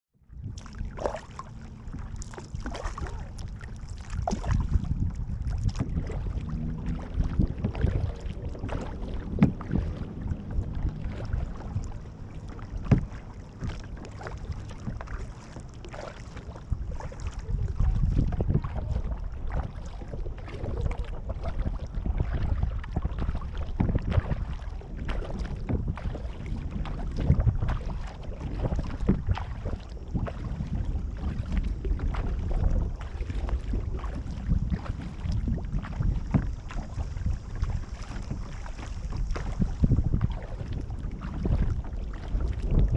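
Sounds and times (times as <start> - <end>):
wind rumble on microphone: 0.1 - 42.9
paddle strokes splashing water: 0.3 - 42.9.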